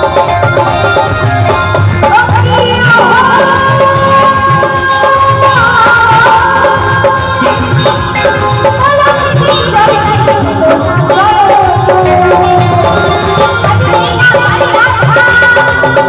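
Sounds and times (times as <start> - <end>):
drums and percussion: 0.0 - 16.0
live folk music through speakers: 0.0 - 16.0.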